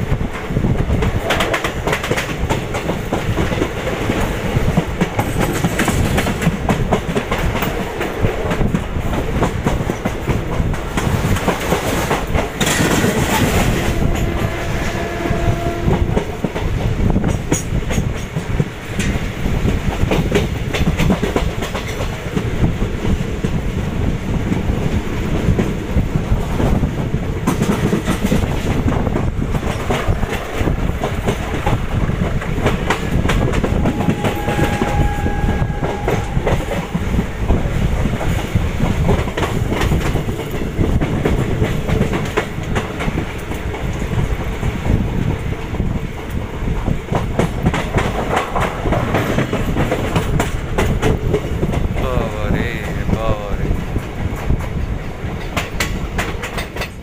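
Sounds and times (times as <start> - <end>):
train rumbling: 0.0 - 57.0
train wheels clickety-clack: 0.0 - 57.0.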